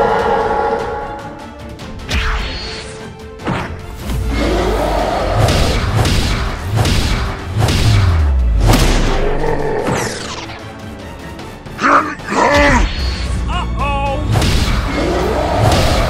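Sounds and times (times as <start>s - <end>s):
soundtrack music: 0.0s - 16.0s.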